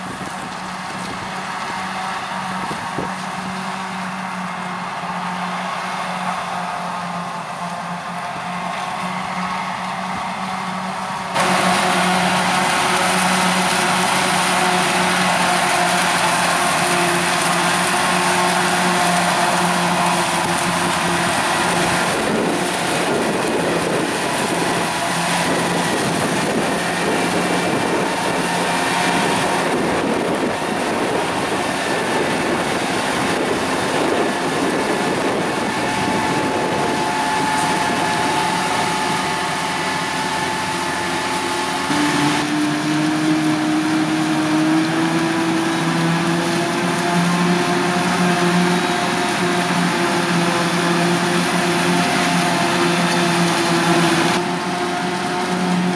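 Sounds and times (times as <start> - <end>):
forage harvester chopping: 0.0 - 55.9
tractor running: 0.0 - 55.9.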